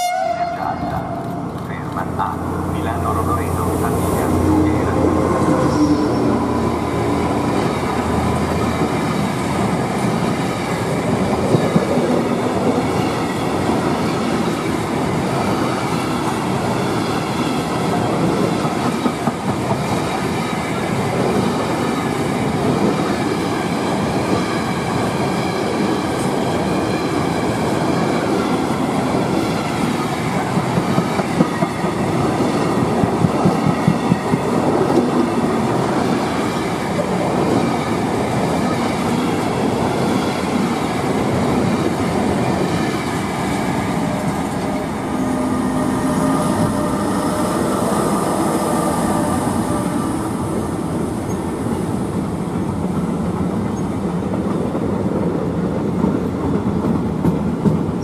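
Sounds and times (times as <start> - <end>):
diesel locomotive engine hum: 0.0 - 58.0.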